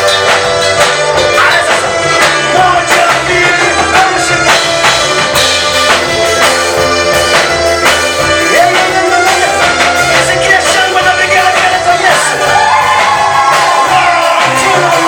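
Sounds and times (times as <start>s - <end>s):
band playing: 0.0s - 15.0s
person singing: 0.0s - 15.0s
steady drum beat: 0.0s - 15.0s.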